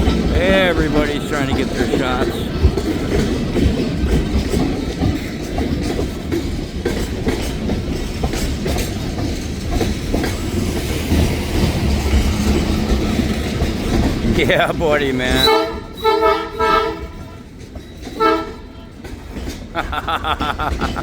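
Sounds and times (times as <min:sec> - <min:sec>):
train rolling past: 0:00.0 - 0:21.0
wheels clicking over rail joints: 0:00.0 - 0:21.0.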